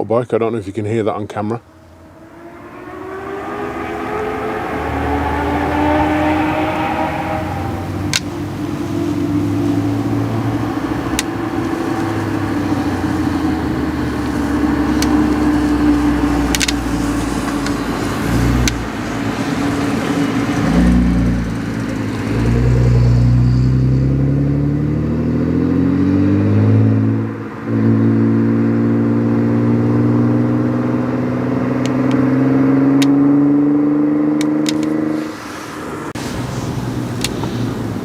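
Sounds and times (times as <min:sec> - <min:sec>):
car engine accelerating hard: 0:01.6 - 0:38.0.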